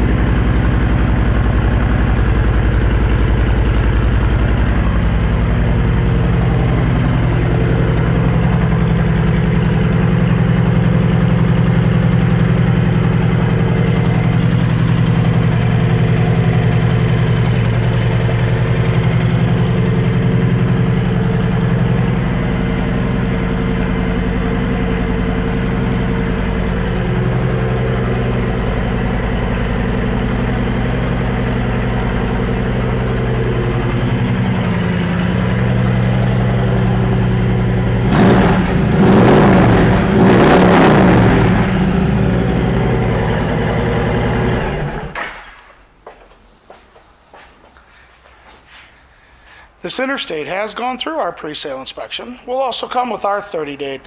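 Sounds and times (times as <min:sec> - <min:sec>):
motorcycle engine idling: 0:00.0 - 0:40.2, 0:40.8 - 0:45.2.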